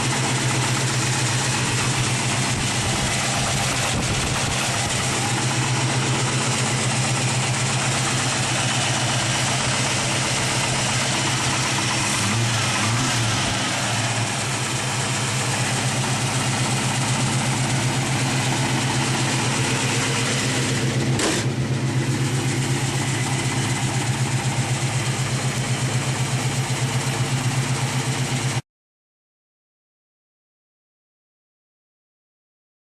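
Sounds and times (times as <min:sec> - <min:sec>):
car engine idling: 0:00.0 - 0:28.6.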